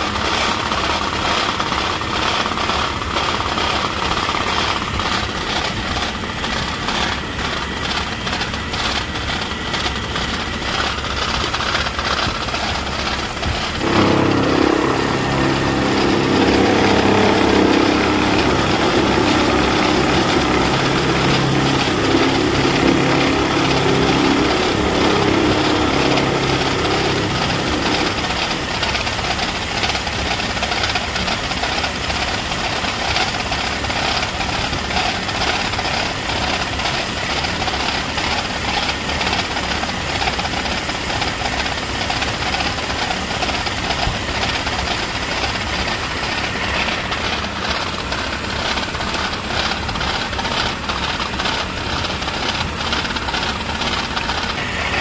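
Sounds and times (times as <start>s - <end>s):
metal lathe running: 0.0s - 55.0s
multi-tone hum: 2.4s - 55.0s.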